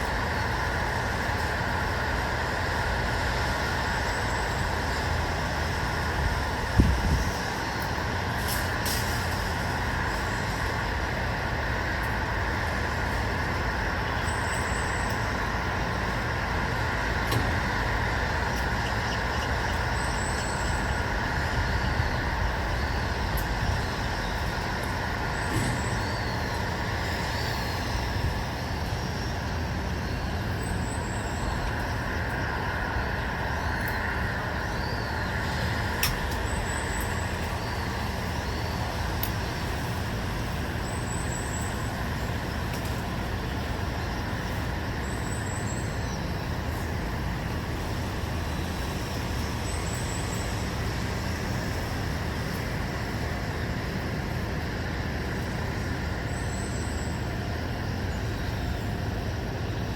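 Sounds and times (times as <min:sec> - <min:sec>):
distant road traffic: 0:00.0 - 0:59.9.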